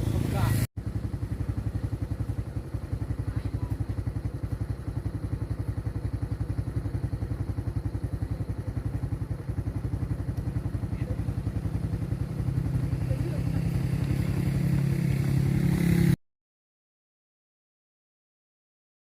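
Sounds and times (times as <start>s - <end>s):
motorcycle engine puttering: 0.0s - 16.2s.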